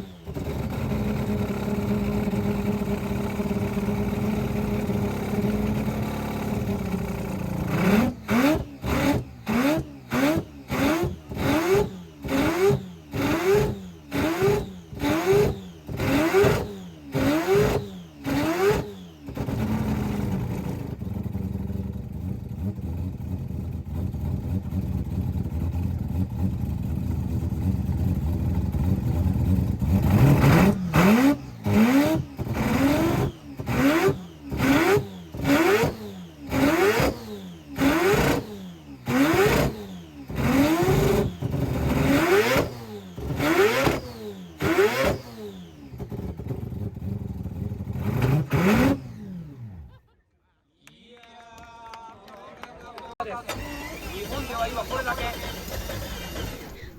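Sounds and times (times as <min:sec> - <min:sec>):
engine idling and revving: 0:00.0 - 0:50.0, 0:53.4 - 0:56.9.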